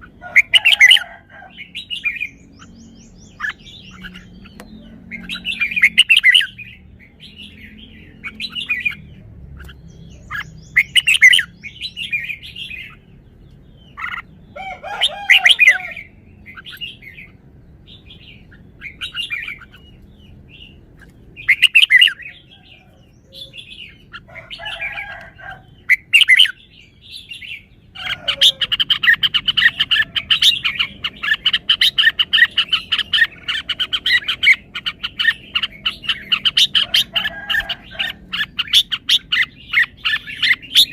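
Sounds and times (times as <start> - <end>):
bird rapid chattering: 0.0 - 13.1, 13.8 - 40.9
bird singing bright phrases: 0.0 - 40.9.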